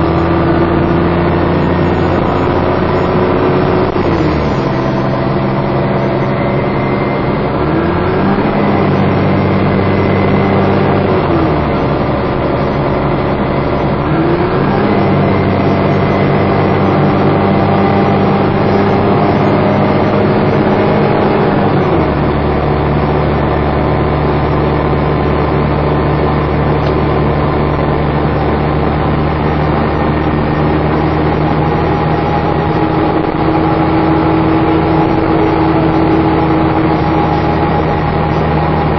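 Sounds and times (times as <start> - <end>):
bus engine under hard driving: 0.0 - 38.9.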